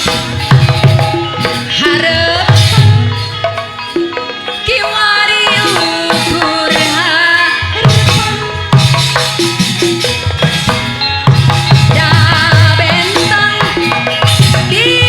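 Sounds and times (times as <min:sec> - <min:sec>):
gamelan melodic line: 0:00.0 - 0:15.0
hand drums lively rhythm: 0:00.0 - 0:15.0.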